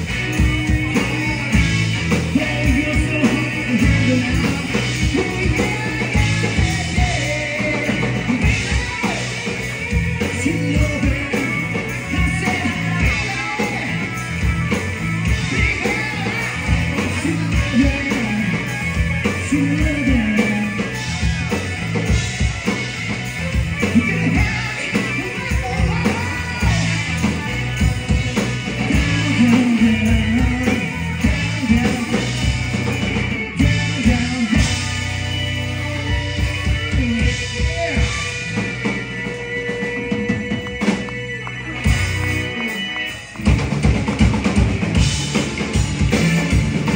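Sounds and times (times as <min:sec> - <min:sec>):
lead singer singing: 0:00.0 - 0:43.6
bass guitar: 0:00.0 - 0:46.9
drum kit beat: 0:00.0 - 0:46.9
electric guitar: 0:00.0 - 0:46.9.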